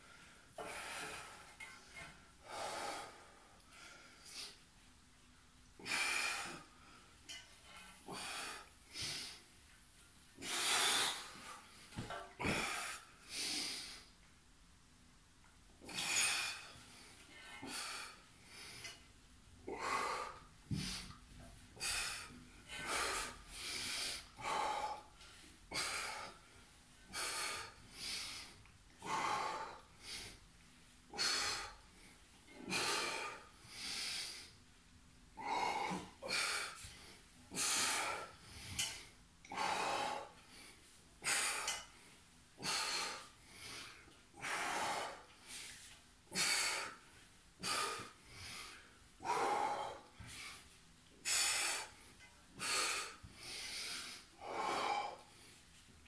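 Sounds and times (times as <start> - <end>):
man breathing hard: 0.0 - 4.6, 5.8 - 9.5, 10.4 - 14.2, 15.8 - 21.2, 21.8 - 30.5, 31.1 - 34.6, 35.4 - 55.8.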